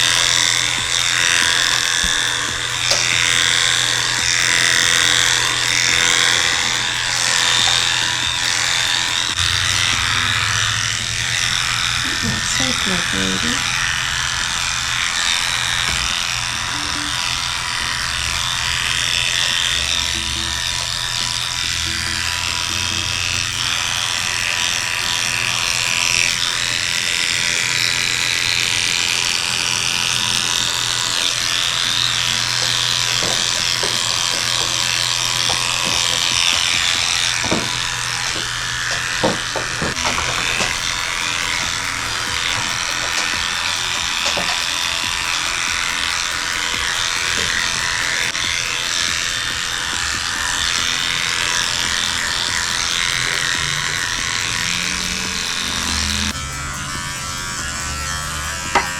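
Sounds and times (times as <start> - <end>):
electric clippers shaving: 0.0 - 58.9.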